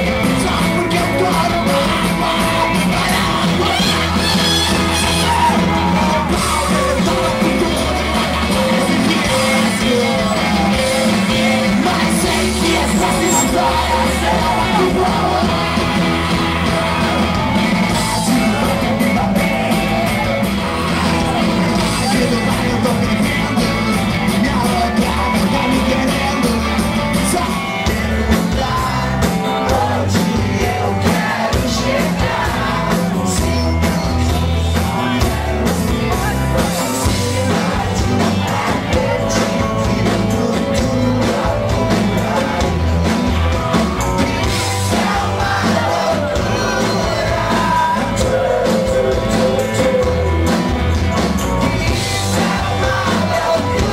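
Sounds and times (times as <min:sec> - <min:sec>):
man singing into a microphone: 0:00.0 - 0:43.2, 0:44.2 - 0:50.8, 0:51.6 - 0:53.9
electric guitars: 0:00.0 - 0:53.9
rock band playing: 0:00.0 - 0:53.9.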